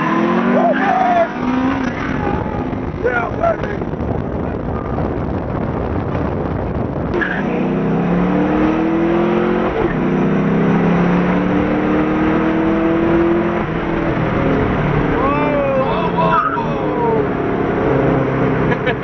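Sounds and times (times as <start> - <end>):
car engine accelerating: 0.0 - 19.0
road rumble: 0.0 - 19.0.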